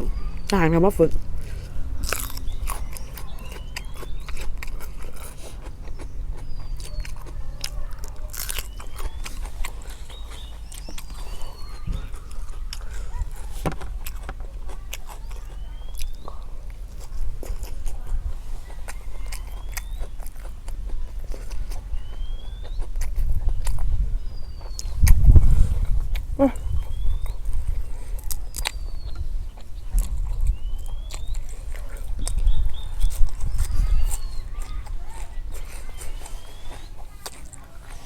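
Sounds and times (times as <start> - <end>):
birds chirping: 0.0 - 38.0
vehicle engines rumbling: 0.0 - 38.0.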